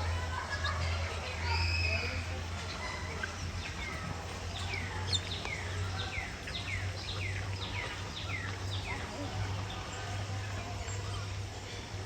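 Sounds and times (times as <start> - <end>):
steady low hum: 0.0 - 12.0
bird chirping: 1.5 - 11.4.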